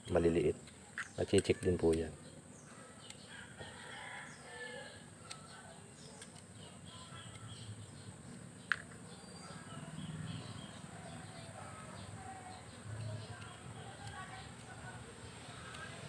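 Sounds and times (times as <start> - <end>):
faint bird chirps: 0.7 - 14.6.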